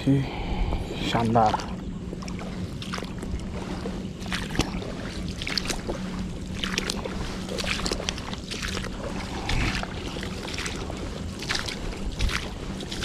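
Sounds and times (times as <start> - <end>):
boots splashing through shallow water: 1.1 - 13.0.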